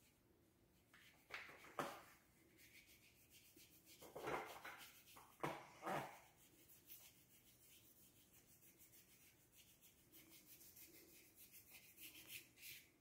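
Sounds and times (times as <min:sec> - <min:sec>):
paintbrush swishing on paper: 0:00.8 - 0:13.0.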